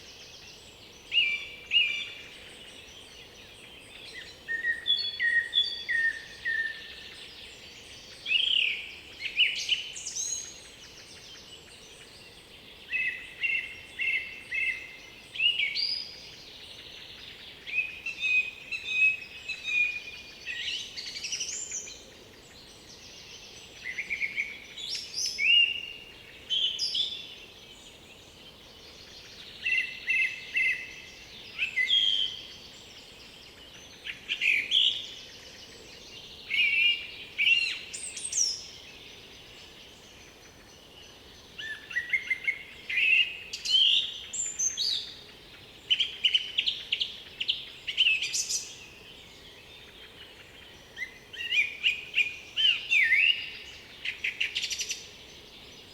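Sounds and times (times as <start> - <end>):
faint background hiss: 0.0 - 55.9
songbirds singing: 0.0 - 55.9.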